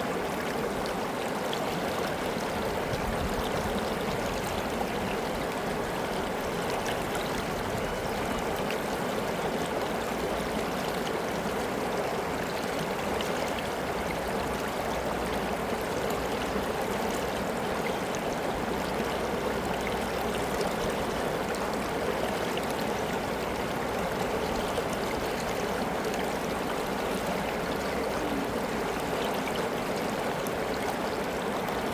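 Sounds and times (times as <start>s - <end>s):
river water babbling over rocks: 0.0s - 31.9s.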